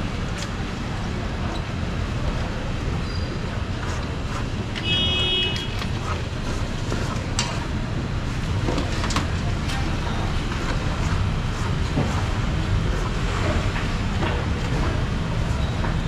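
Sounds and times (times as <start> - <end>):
street market background: 0.0 - 16.0
traffic: 0.0 - 16.0.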